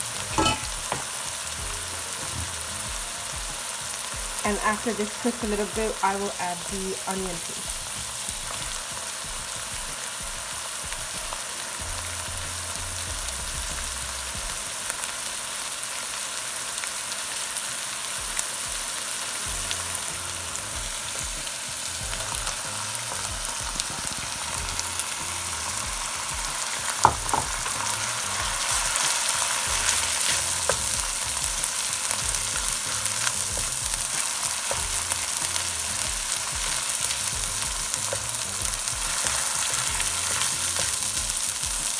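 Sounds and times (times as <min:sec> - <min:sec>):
paste sizzling in oil: 0:00.0 - 0:41.9.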